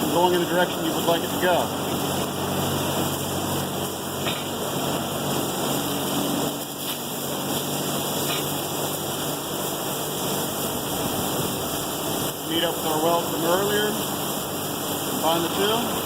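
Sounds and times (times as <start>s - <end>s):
welding torch hissing: 0.0s - 16.0s.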